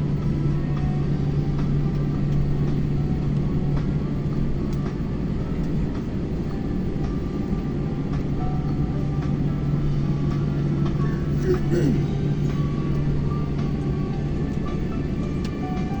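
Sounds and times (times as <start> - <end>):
airliner cabin rumble and hum: 0.0 - 16.0.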